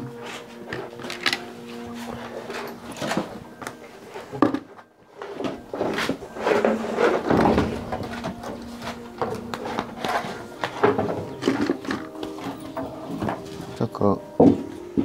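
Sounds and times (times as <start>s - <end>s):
rustling and shuffling: 0.0s - 15.0s
clunks: 0.6s - 15.0s.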